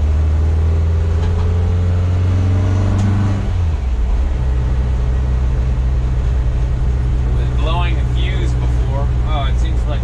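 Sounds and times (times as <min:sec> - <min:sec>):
engine pulling and upshifting: 0:00.0 - 0:10.0.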